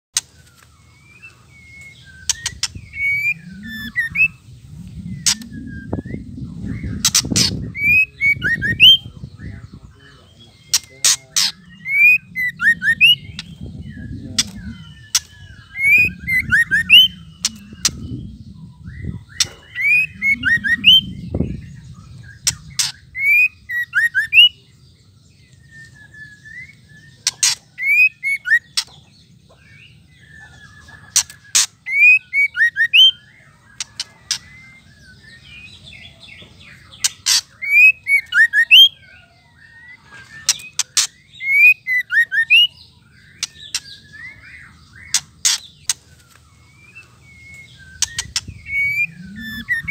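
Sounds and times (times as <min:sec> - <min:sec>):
bird whistling calls: 0:00.4 - 0:24.6, 0:25.6 - 0:29.0, 0:30.2 - 0:49.9.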